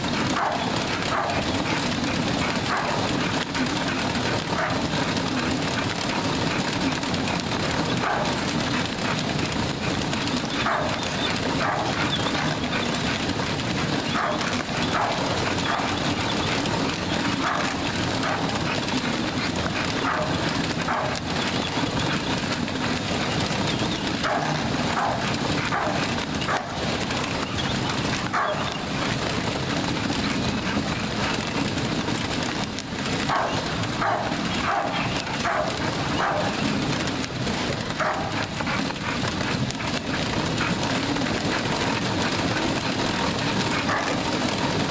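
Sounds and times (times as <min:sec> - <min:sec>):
treadmill rumbling: 0:00.0 - 0:44.9
dog yelping: 0:00.2 - 0:31.4, 0:33.1 - 0:36.9, 0:37.8 - 0:44.9.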